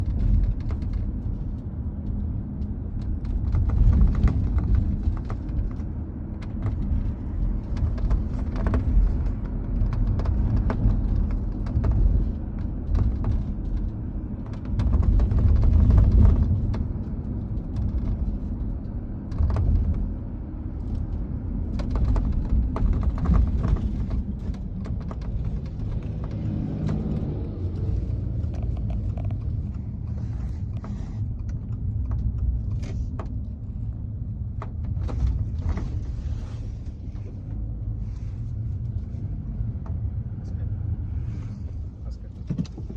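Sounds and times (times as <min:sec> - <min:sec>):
low road rumble: 0:00.0 - 0:42.9
roof clicking and rattling: 0:00.0 - 0:42.9.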